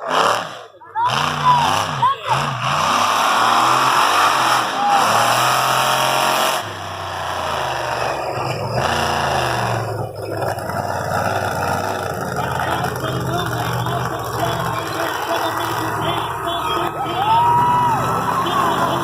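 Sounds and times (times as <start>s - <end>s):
tank engine running hard: 0.0s - 19.0s.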